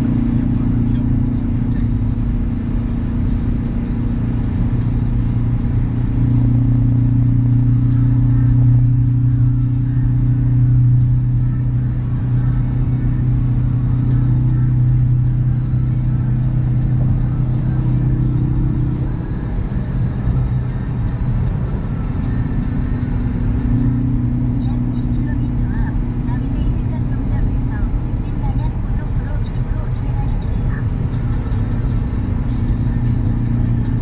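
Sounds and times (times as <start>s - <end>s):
car engine and exhaust drone: 0.0s - 34.0s
tyre and road noise: 0.0s - 34.0s.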